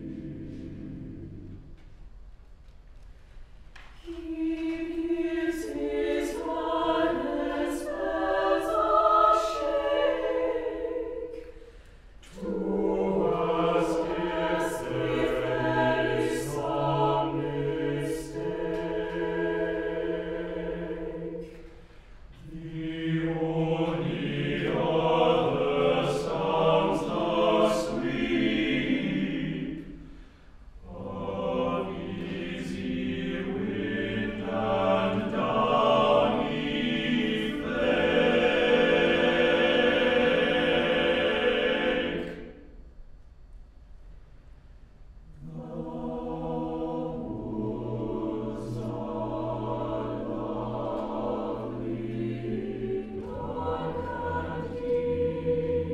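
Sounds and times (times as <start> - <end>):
mixed choir singing a cappella: 0.0 - 1.7, 4.0 - 11.6, 12.2 - 30.2, 30.8 - 42.7, 45.4 - 55.9.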